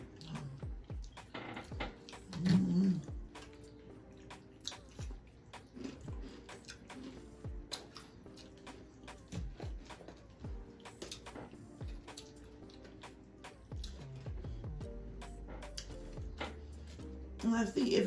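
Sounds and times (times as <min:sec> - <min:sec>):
wet mouth clicks and chewing: 0:00.0 - 0:17.1
faint background music: 0:00.0 - 0:18.0.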